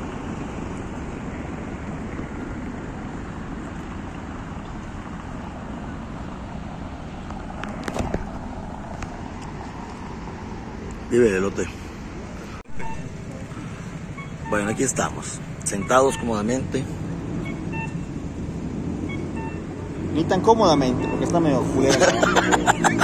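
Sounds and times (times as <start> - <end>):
steady traffic noise: 0.0 - 23.0.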